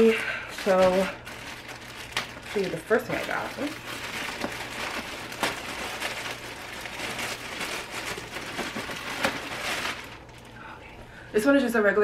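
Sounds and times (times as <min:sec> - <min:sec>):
packaging crinkling: 0:00.0 - 0:10.6.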